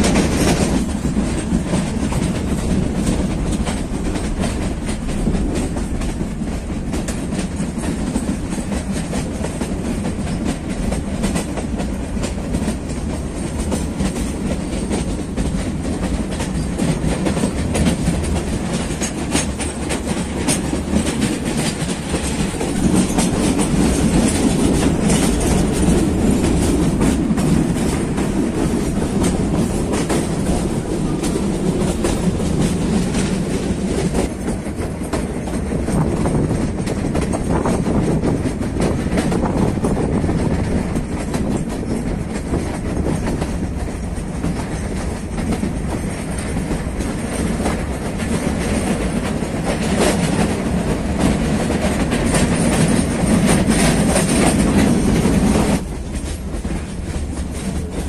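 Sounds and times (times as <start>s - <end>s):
train rumbling: 0.0s - 58.0s
wheels clicking over rail joints: 0.0s - 58.0s.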